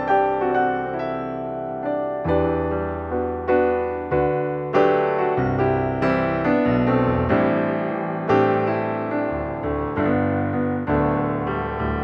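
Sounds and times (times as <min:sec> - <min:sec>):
calm piano melody: 0:00.0 - 0:12.0.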